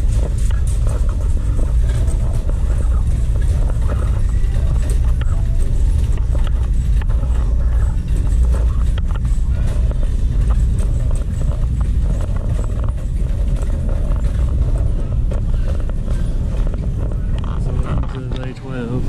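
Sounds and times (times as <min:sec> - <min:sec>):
metal basket rattling: 0:00.0 - 0:18.3
cart wheels rumbling: 0:00.0 - 0:19.0.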